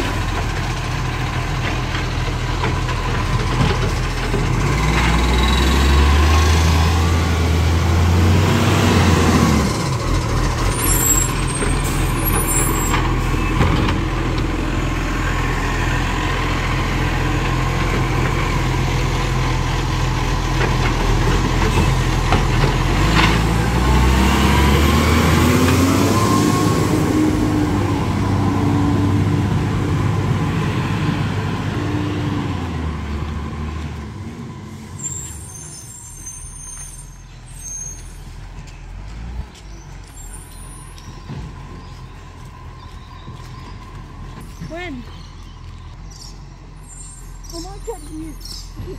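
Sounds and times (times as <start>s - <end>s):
diesel truck engine revving: 0.0s - 48.9s.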